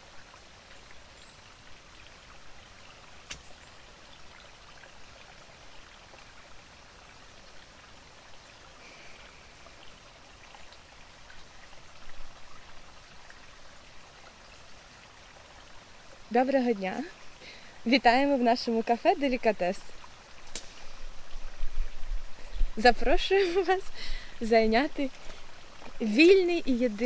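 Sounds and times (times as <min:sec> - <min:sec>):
stream hissing: 0:00.0 - 0:27.0.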